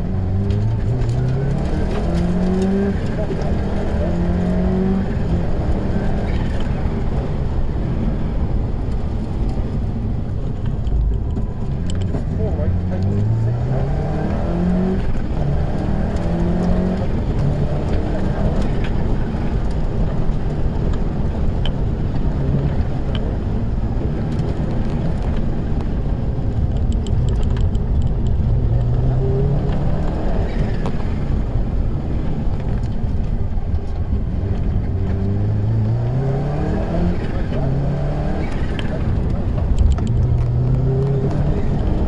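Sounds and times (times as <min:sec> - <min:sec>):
rally car engine revving: 0:00.0 - 0:42.0
road and tyre rumble: 0:00.0 - 0:42.0.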